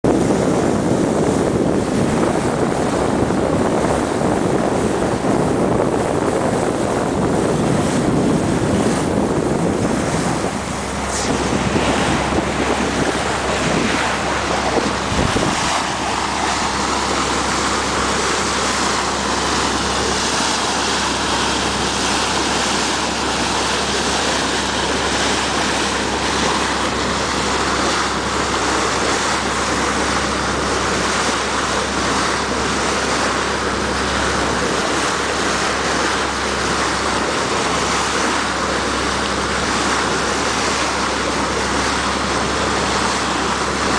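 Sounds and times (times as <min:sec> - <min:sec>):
low engine hum: 0:00.0 - 0:43.9
water rushing along hull: 0:00.0 - 0:43.9
wind buffeting microphone: 0:00.0 - 0:43.9.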